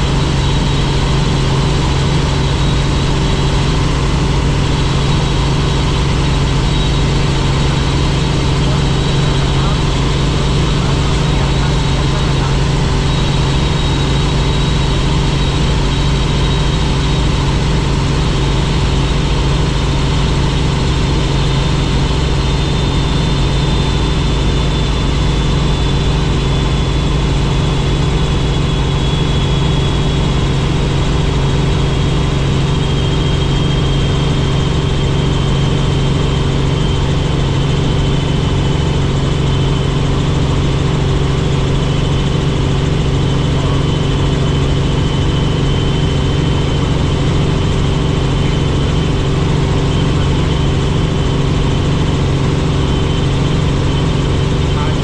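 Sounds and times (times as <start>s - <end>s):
helicopter engine and rotor drone: 0.0s - 55.0s
high-pitched whine: 0.0s - 55.0s.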